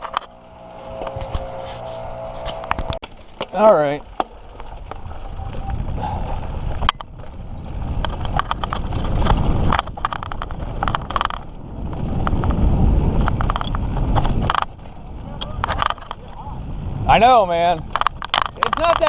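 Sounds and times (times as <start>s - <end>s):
bike rattling and clicking: 0.0s - 19.0s
bike tyres rumbling on dirt: 0.0s - 19.0s.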